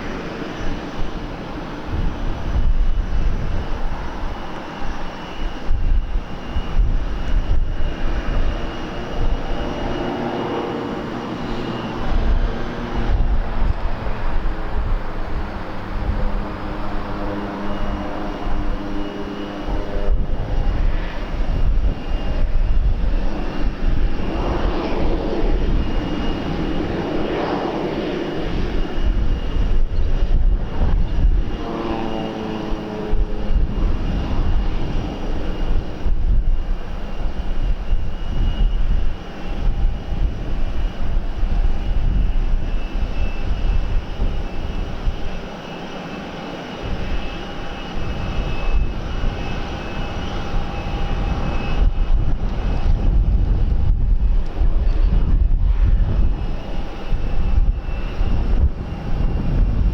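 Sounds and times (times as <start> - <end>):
airliner engines passing: 0.0 - 59.9
wind rumble on microphone: 0.0 - 59.9.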